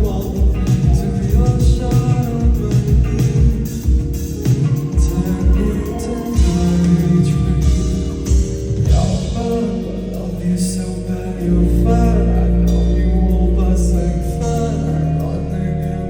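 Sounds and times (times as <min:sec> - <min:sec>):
deep sustained bass notes: 0:00.0 - 0:16.0
person singing over backing track: 0:00.0 - 0:16.0.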